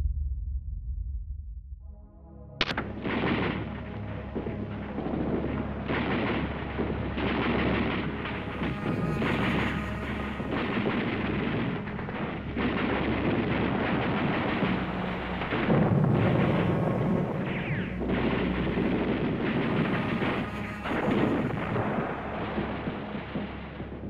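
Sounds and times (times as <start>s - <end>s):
explosions: 2.6s - 24.0s
gunfire: 2.6s - 24.0s.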